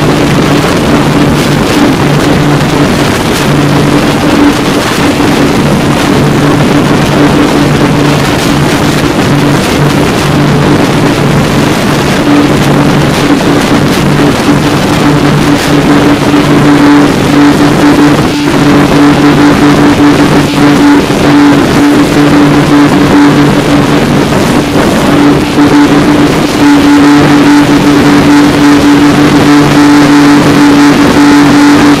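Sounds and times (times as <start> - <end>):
outboard motors humming: 0.0 - 32.0
wind and water rushing: 0.0 - 32.0.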